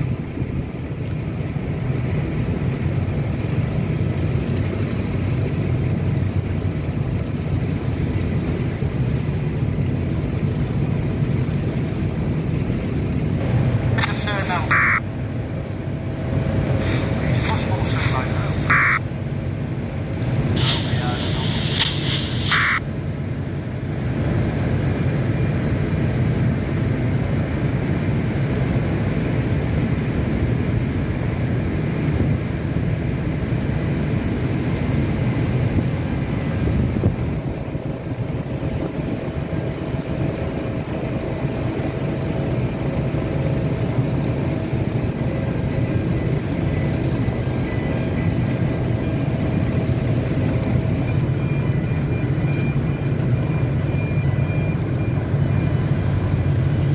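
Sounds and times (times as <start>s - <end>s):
diesel engine drone: 0.0s - 56.9s
faint constant hums: 0.0s - 56.9s.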